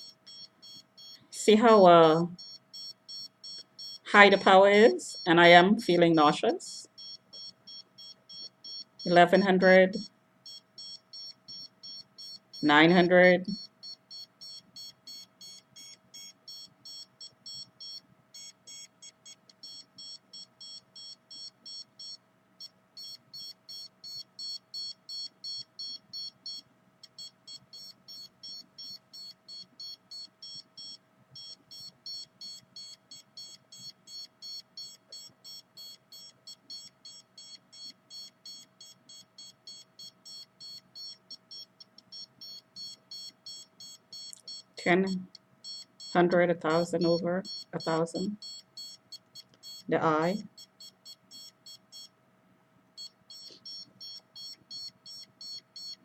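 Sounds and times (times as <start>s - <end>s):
meter alarm beeping rapidly: 0.0s - 52.1s, 53.0s - 56.0s
faint steady hum: 0.0s - 56.0s.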